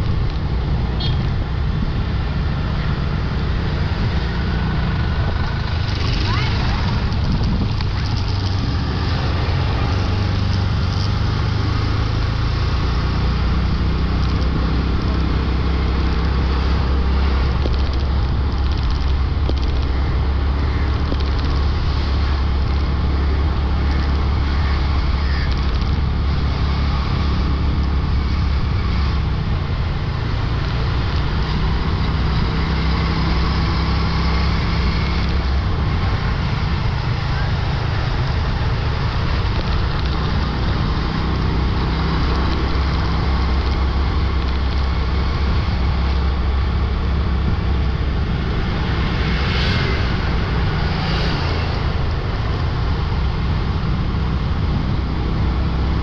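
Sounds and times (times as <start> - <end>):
road traffic: 0.0 - 56.0.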